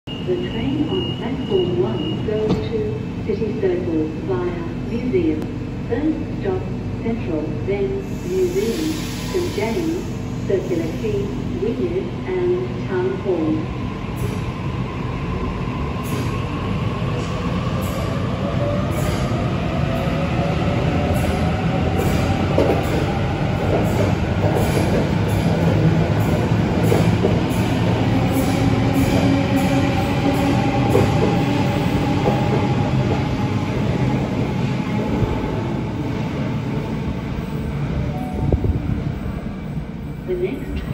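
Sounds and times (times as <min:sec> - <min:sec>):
train rumble: 0:01.8 - 0:40.9.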